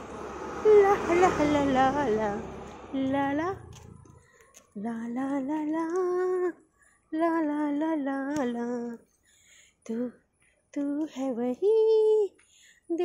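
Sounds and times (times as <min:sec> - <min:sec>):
woman singing wordless tune: 0:00.5 - 0:09.1, 0:09.8 - 0:13.0.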